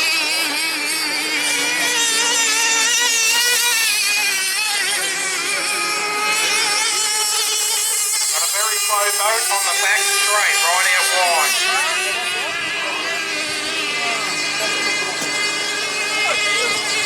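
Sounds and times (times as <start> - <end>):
model boat engines whining: 0.0 - 17.0.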